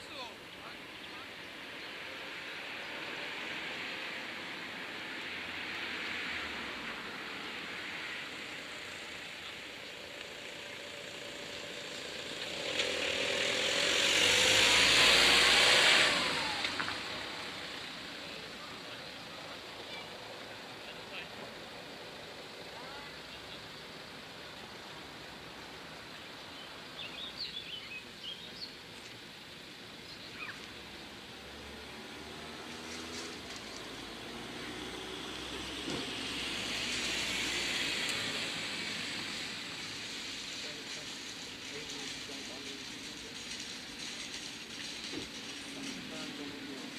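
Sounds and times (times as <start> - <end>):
road traffic hum and hiss: 0.0 - 46.9
van driving past: 0.2 - 28.6, 29.3 - 46.9.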